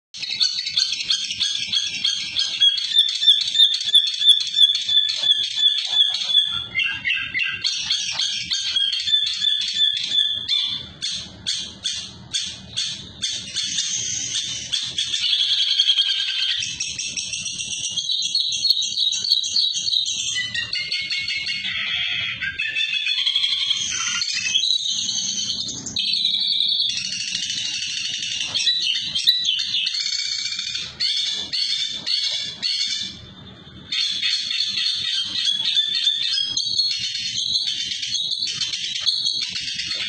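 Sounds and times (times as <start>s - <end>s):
songbird singing: 0.2s - 40.0s.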